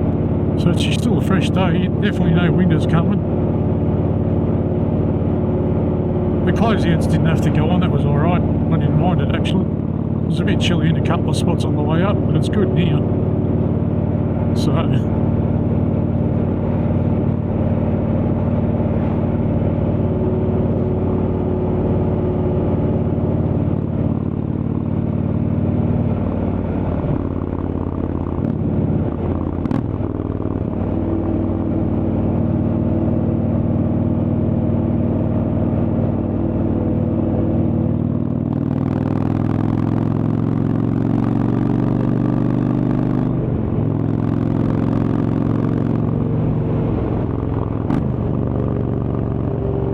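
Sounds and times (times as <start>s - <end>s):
motorcycle engine riding: 0.0s - 49.9s.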